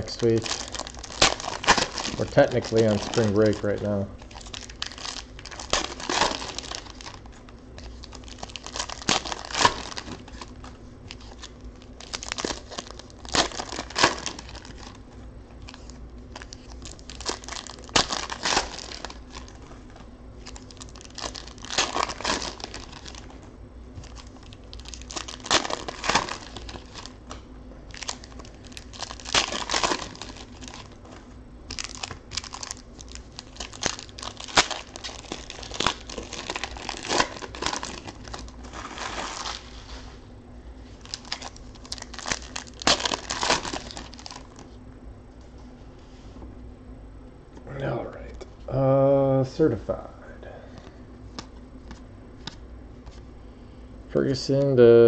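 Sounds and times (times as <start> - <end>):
foil wrappers crinkling and tearing: 0.0 - 40.2, 40.8 - 44.8
soft wrapper rustling: 0.0 - 40.2, 40.8 - 44.8.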